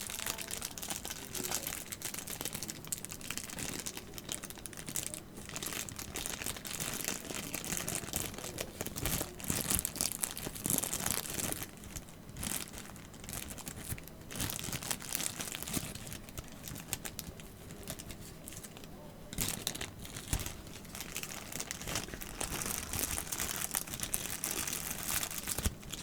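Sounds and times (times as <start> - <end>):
packaging crinkling and rustling: 0.0 - 26.0.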